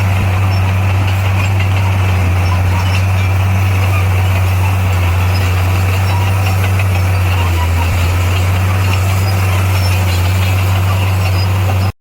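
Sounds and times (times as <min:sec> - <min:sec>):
heavy diesel engine droning: 0:00.0 - 0:12.0.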